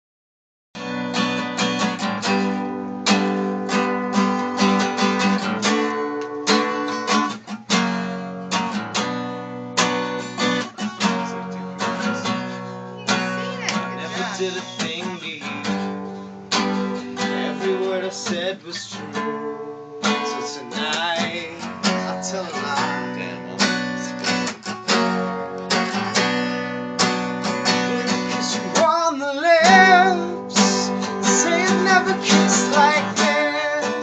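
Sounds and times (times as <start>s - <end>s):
acoustic guitar strumming: 0.8s - 34.0s.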